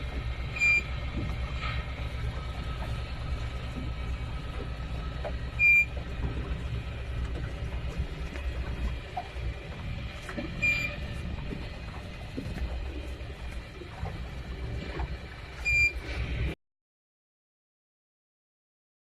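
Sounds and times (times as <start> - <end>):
low engine rumble: 0.0 - 16.6.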